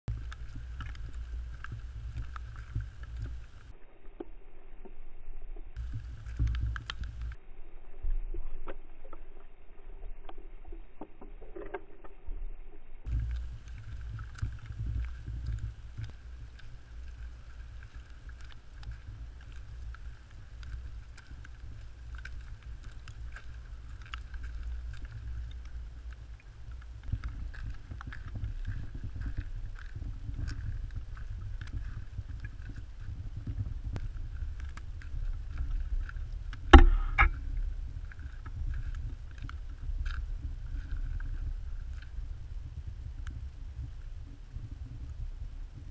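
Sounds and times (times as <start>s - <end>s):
wind rumbling on microphone: 0.0s - 45.9s.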